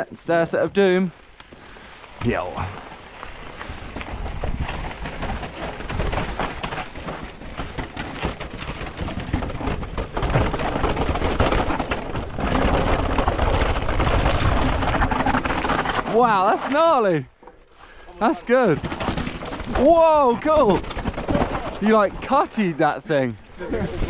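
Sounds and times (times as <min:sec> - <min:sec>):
bike rattling over rocks: 0:00.0 - 0:24.0.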